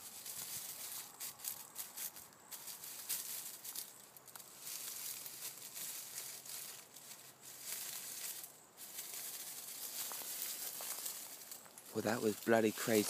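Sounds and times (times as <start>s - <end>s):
rustling in dry leaves: 0.0s - 13.0s.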